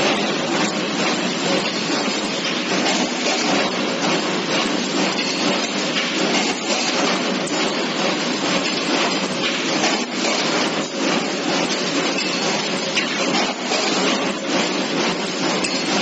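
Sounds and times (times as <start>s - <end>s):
machine clattering with clicks: 0.0s - 16.0s.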